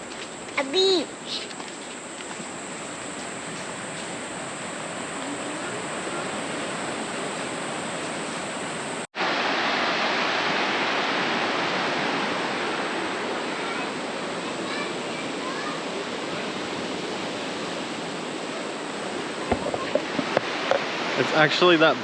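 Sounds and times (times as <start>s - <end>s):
surf breaking on beach: 2.6s - 22.0s.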